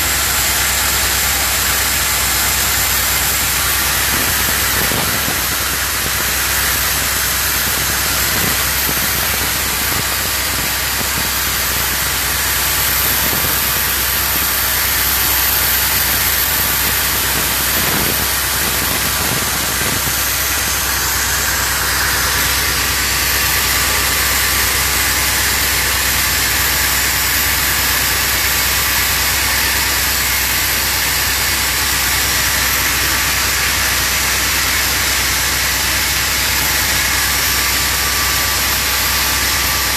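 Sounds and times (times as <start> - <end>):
oxygen machine hissing: 0.0 - 39.9.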